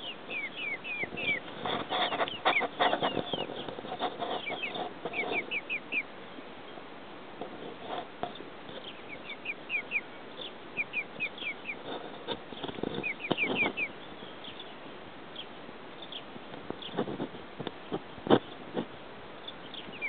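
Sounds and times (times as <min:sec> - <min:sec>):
chicks peeping: 0:00.0 - 0:06.9, 0:07.5 - 0:20.0.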